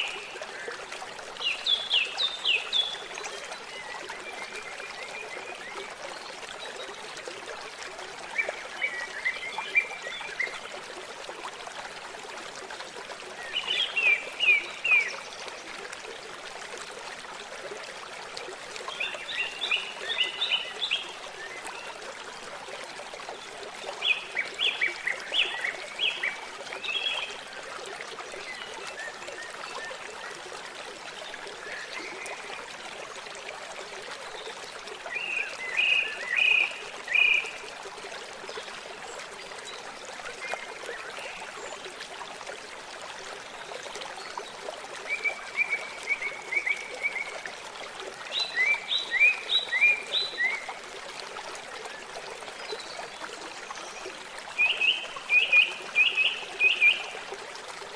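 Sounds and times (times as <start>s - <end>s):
water trickling: 0.0s - 57.9s.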